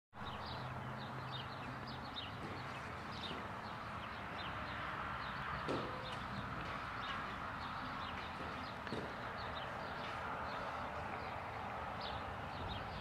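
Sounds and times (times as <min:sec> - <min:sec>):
small birds chirping: 0:00.2 - 0:13.0.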